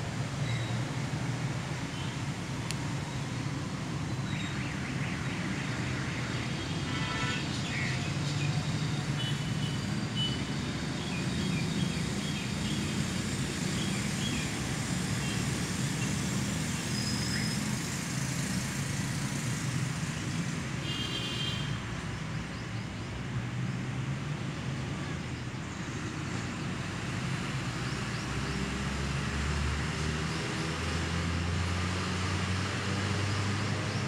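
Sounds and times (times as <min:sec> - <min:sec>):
distant road traffic hum: 0:00.0 - 0:34.0.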